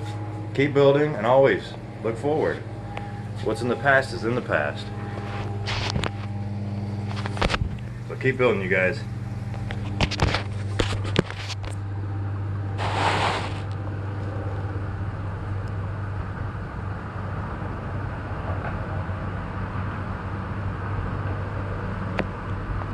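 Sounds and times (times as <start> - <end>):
water pump humming: 0.0 - 18.4.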